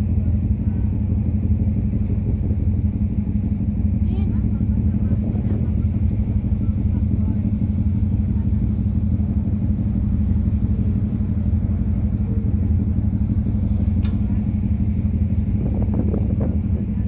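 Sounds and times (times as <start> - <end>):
faint voices: 0.0 - 17.0
ferry engines rumbling: 0.0 - 17.0.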